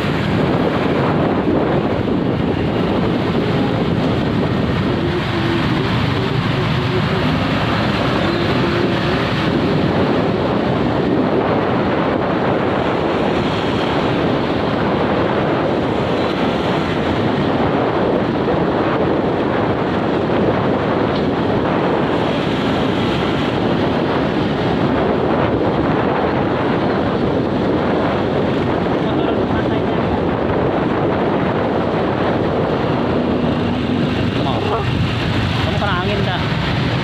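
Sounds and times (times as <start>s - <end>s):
surf washing: 0.0s - 37.0s
wind on microphone: 0.0s - 37.0s.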